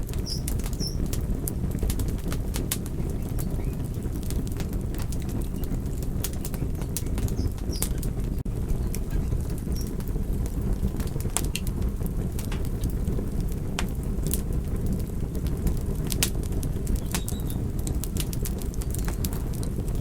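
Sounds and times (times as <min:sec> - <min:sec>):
campfire wood crackling: 0:00.0 - 0:20.0
low rumble: 0:00.0 - 0:20.0.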